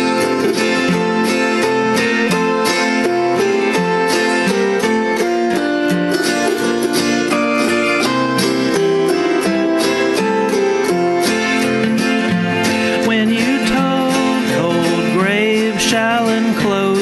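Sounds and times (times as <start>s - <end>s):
acoustic guitar strumming: 0.0s - 17.0s
autoharp strumming: 0.0s - 17.0s.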